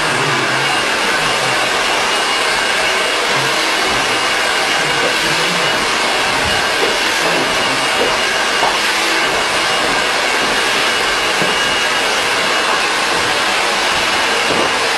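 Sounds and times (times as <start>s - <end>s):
hair dryer running: 0.0s - 14.9s.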